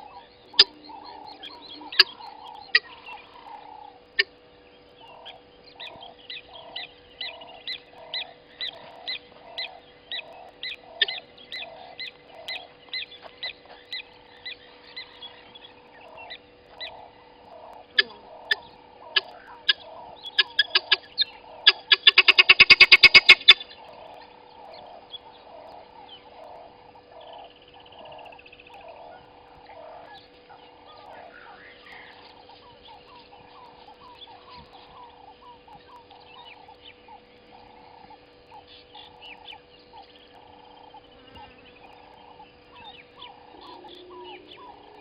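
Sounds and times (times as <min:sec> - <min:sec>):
guineafowl calling: 0:00.0 - 0:45.0.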